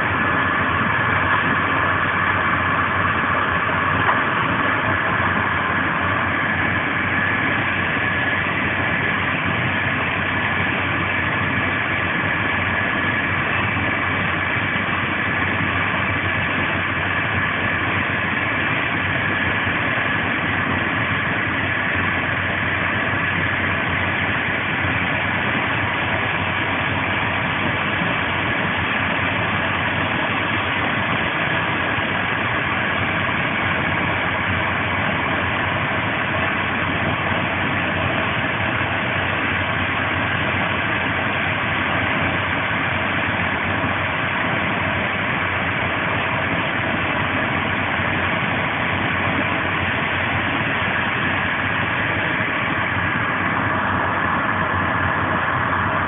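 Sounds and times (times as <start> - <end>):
faint steady whine: 0.0 - 56.0.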